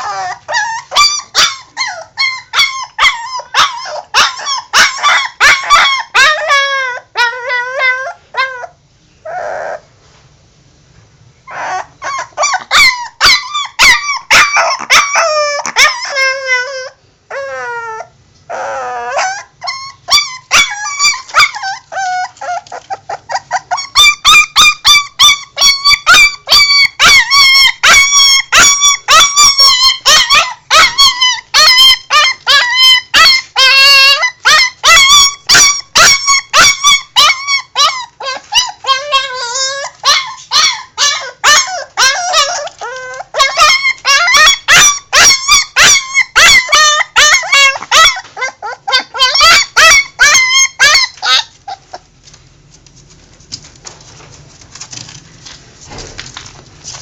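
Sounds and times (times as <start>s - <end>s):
dog yelping high-pitched: 0.0s - 9.8s, 11.5s - 52.0s.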